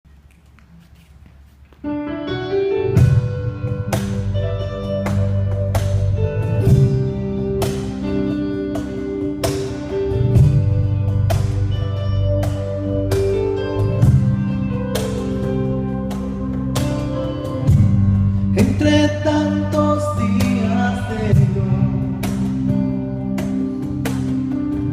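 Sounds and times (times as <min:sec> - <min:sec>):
held keyboard notes: 0:00.1 - 0:24.9
bass line: 0:02.3 - 0:24.9.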